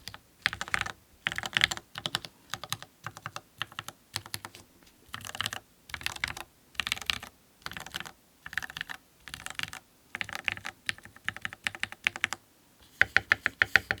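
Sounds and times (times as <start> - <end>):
mechanical keyboard typing: 0.0 - 12.4, 13.0 - 14.0.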